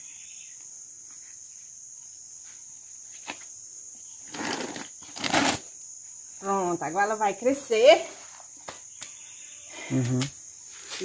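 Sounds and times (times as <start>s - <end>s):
high insect chirring: 0.0s - 11.0s.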